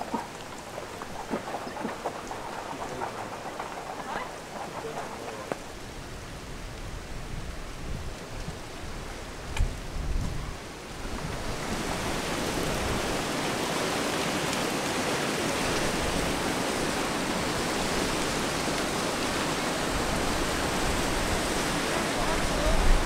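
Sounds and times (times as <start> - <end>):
river and waterfall rushing: 0.0 - 6.6, 10.6 - 23.0.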